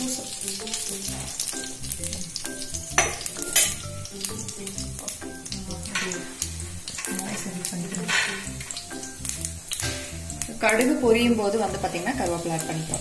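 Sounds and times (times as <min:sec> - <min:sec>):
seeds sizzling in oil: 0:00.0 - 0:13.0.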